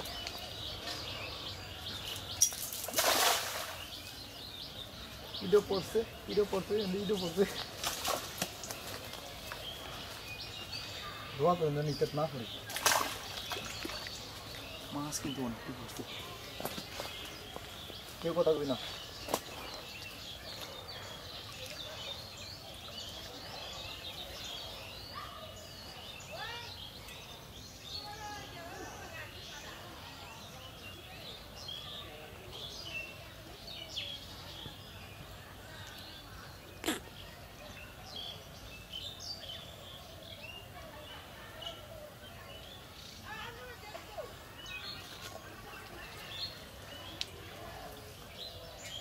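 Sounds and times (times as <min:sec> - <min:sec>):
birds chirping and calling: 0:00.0 - 0:49.0
outdoor background hiss: 0:00.1 - 0:49.0.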